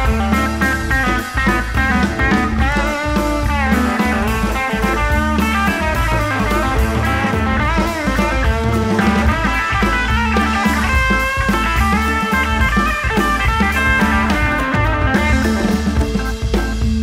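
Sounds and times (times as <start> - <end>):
guitar music with drums: 0.0 - 17.0.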